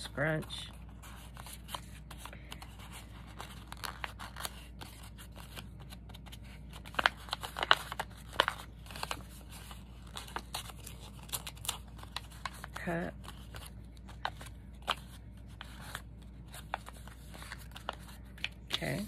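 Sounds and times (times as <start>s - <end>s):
paper crinkling by hand: 0.4s - 19.0s.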